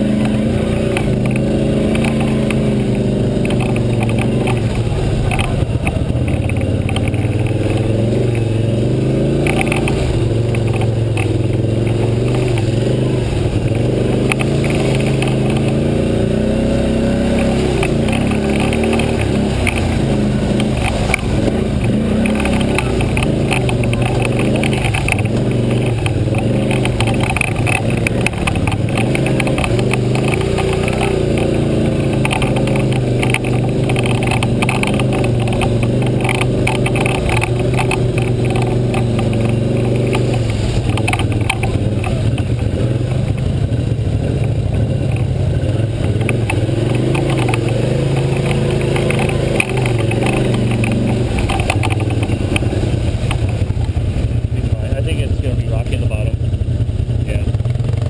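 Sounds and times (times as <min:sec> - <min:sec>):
atv engine running: 0:00.0 - 0:58.0
rattling over rocks: 0:00.0 - 0:58.0.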